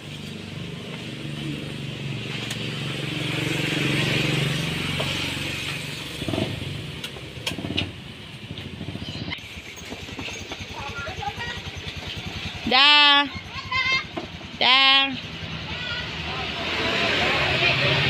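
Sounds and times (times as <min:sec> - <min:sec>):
motor scooter engine running: 0:00.0 - 0:18.0.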